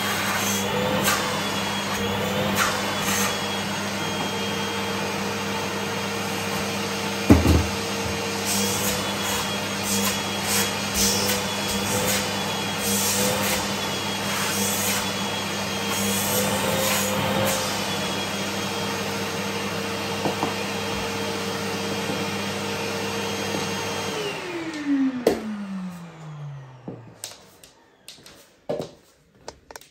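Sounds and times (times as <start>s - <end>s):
vacuum cleaner running: 0.0s - 29.8s.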